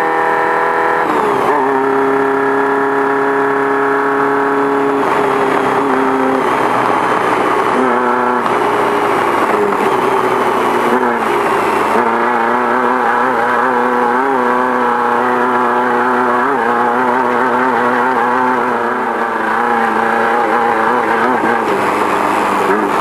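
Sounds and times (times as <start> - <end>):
race car engine at high revs: 0.0 - 23.0.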